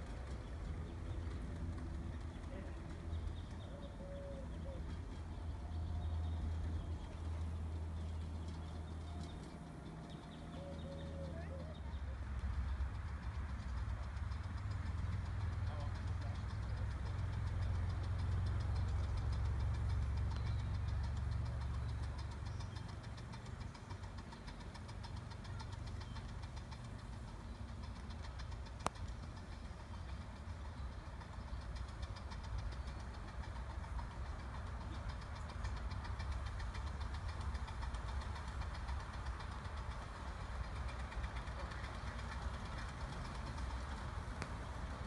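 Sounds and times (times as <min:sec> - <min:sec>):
distant steam locomotive rumble: 0:00.0 - 0:45.0.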